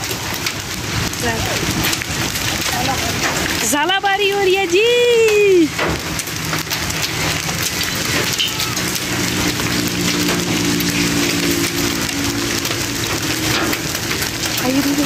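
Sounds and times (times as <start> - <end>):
hail pelting hard ground: 0.0 - 15.0.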